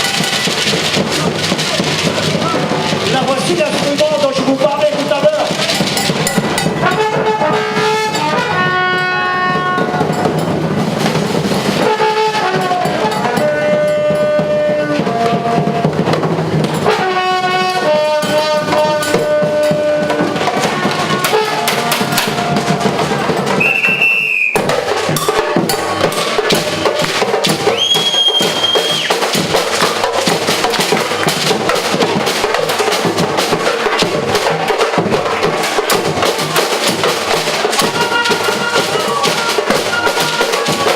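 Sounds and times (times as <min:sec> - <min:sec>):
fast drum groove: 0:00.0 - 0:40.9.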